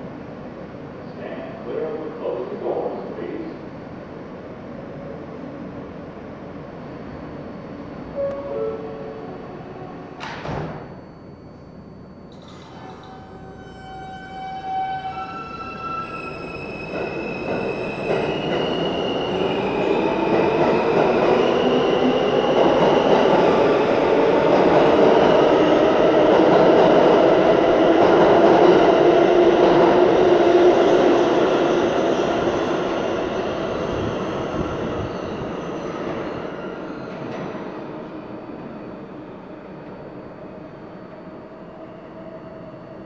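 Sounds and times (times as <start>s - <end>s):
train propulsion whine: 1.5s - 43.0s.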